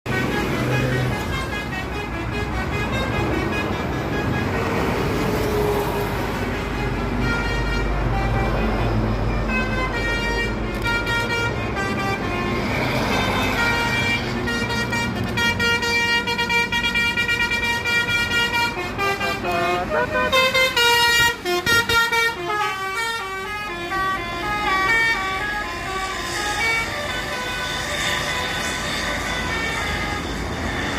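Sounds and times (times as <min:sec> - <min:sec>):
road traffic noise: 0:00.0 - 0:30.9
bus horn playing multi-note tune: 0:00.1 - 0:30.9.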